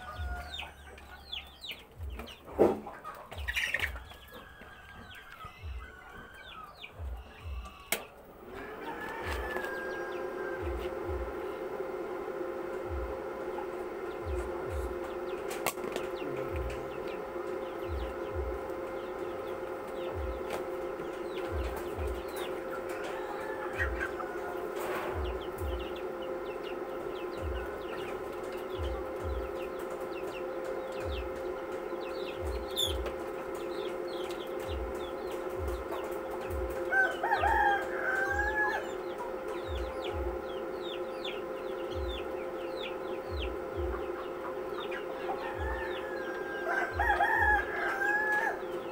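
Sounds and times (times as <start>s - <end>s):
chickens clucking: 0.0s - 48.9s
steady hum: 0.0s - 48.9s.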